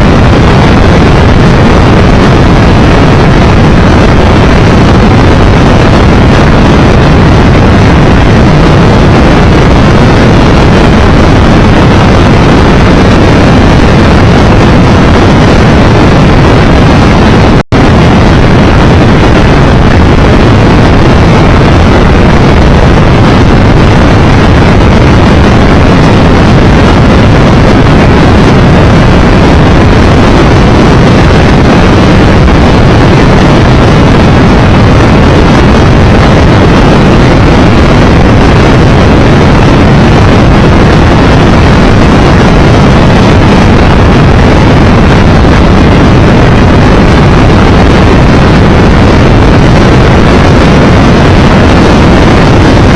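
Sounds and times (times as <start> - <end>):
wind rush over microphone: 0.0 - 52.9.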